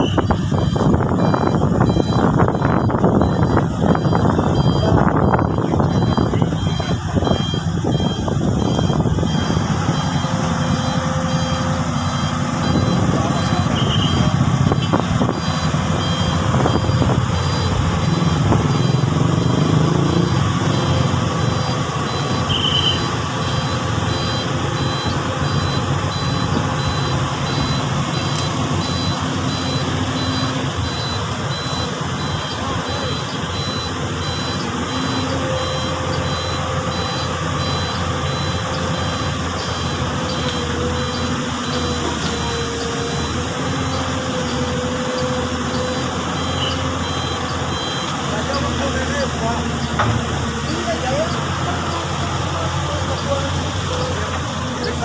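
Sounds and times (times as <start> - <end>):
beeping alarm: 0.0 - 55.0
excavator diesel engine running: 0.0 - 55.0.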